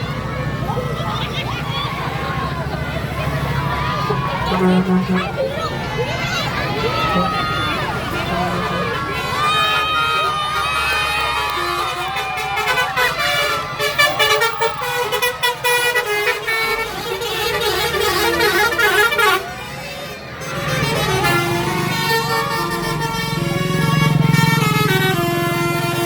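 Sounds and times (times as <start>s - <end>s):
bus engine: 0.0s - 26.0s
bus horn playing melody: 3.4s - 26.0s.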